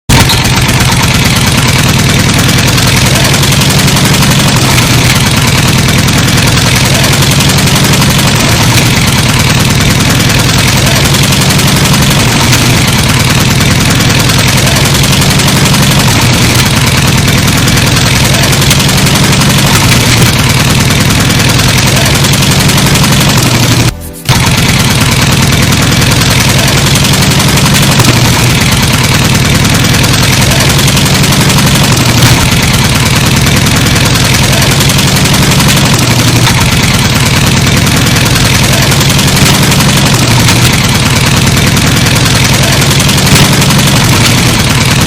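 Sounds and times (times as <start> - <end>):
engine idling with rhythmic chug: 0.1 - 45.0.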